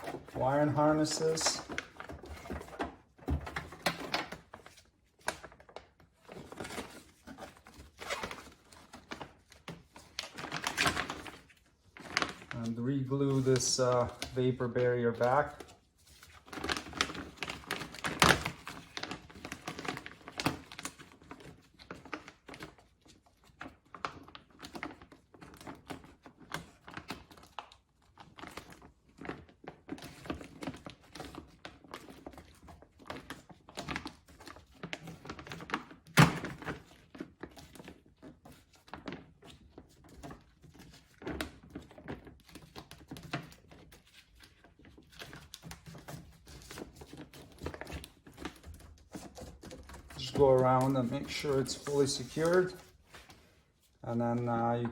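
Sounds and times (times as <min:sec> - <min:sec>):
plastic sheet crinkling: 0:00.0 - 0:54.9.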